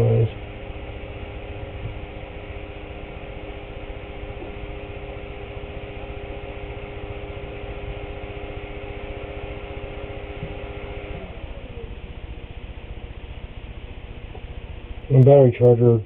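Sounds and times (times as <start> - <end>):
cooling fan humming: 0.0 - 16.0
fan winding down: 0.0 - 16.0.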